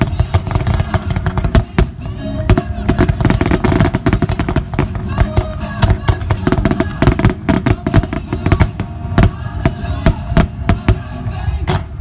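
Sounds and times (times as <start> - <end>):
firework bangs: 0.0 - 12.0.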